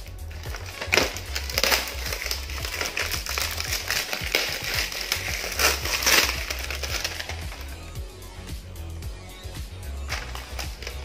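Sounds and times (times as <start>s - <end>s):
plastic film crinkling: 0.0s - 8.0s, 10.1s - 11.0s.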